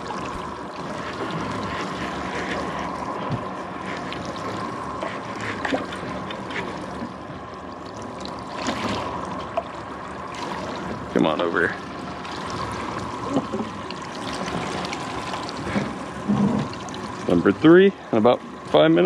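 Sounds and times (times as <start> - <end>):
faint steady hum: 0.0 - 19.0
water lapping against boat hull: 0.0 - 19.0.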